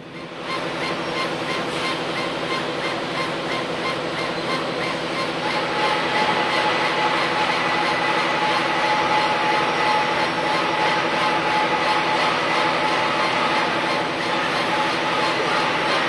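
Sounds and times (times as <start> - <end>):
motor whine: 0.0 - 16.0
laser engraver hissing rush: 0.1 - 16.0.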